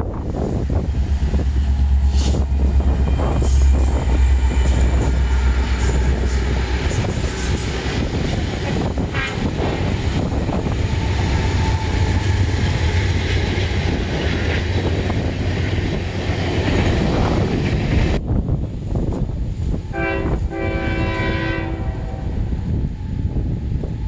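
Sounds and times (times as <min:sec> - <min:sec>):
diesel locomotive engines rumbling: 0:00.0 - 0:24.0.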